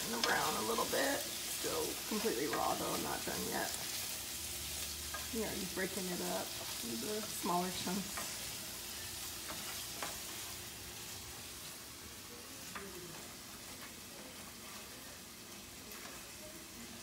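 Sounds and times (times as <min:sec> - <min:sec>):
meat and onions sizzling in a skillet: 0:00.0 - 0:17.0.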